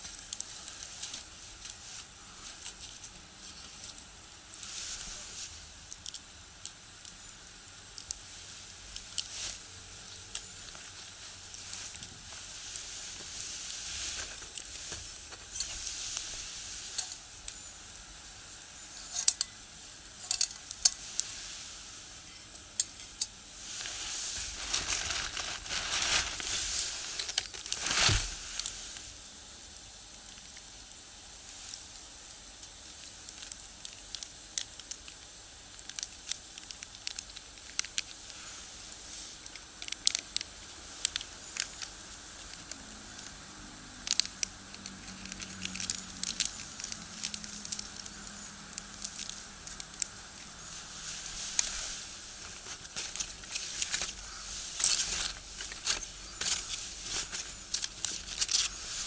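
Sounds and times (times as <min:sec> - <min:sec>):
hiss of flames: 0:00.0 - 0:34.8, 0:43.2 - 0:59.0
firewood crackling and popping: 0:00.0 - 0:59.0.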